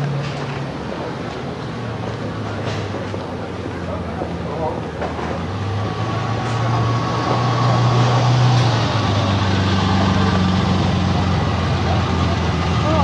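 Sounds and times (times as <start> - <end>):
car engine running low: 0.0 - 13.0.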